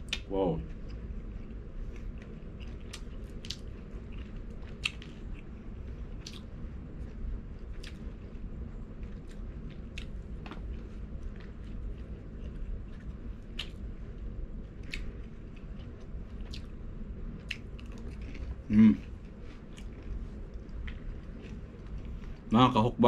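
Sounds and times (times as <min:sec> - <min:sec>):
chewing crispy food: 0:00.0 - 0:22.6
low steady hum: 0:00.0 - 0:23.0.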